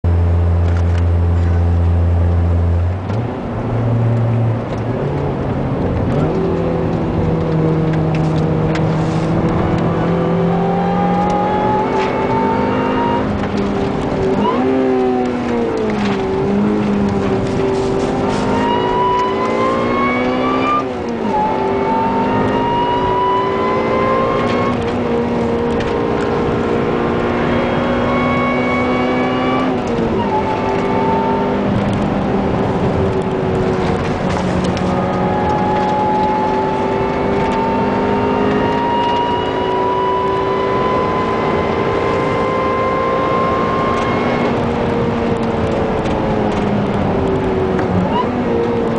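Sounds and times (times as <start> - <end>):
car engine accelerating: 0.0 - 48.9
supercharger whine: 0.1 - 48.9.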